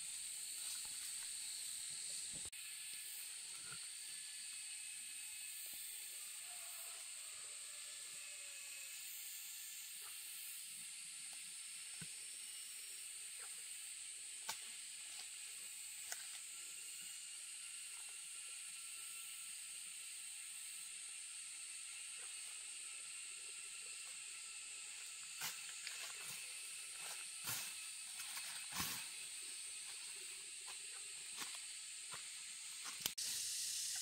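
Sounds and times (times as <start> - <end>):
high-pitched hiss: 0.0 - 34.0.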